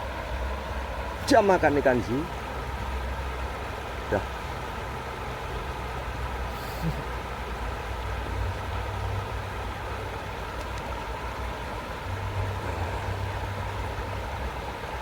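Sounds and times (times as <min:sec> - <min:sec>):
motor rumbling with faint whine: 0:00.0 - 0:15.0.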